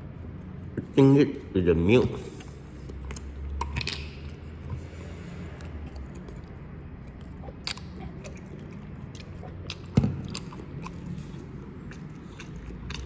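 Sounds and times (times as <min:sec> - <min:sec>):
chewing and mouth sounds: 0:00.0 - 0:13.0.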